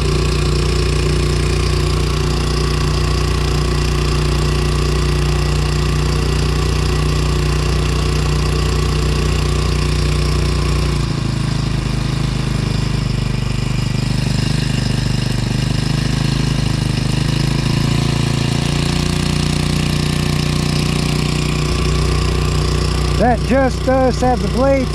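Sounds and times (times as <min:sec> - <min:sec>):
outboard motor running: 0:00.0 - 0:24.9.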